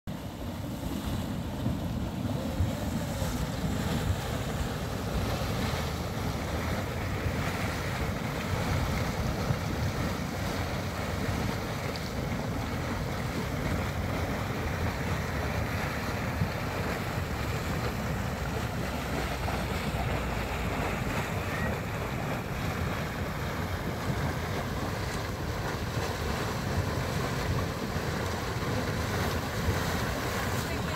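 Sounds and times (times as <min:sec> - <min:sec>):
steaming mud pool hissing: 0:00.2 - 0:30.9
wind buffeting microphone: 0:00.2 - 0:30.9.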